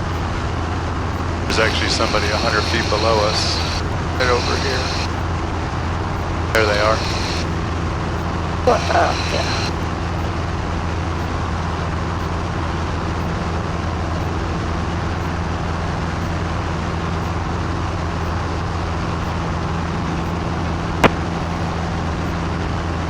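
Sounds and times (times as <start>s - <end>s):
light aircraft engine droning: 0.0s - 23.0s.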